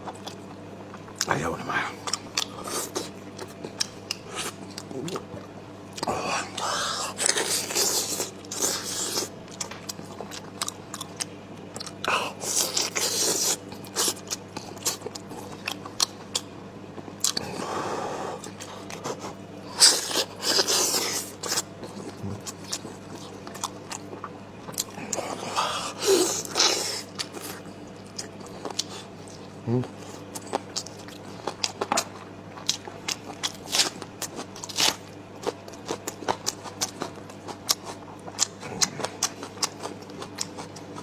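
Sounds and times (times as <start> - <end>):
person chewing meat: 0.0 - 41.0.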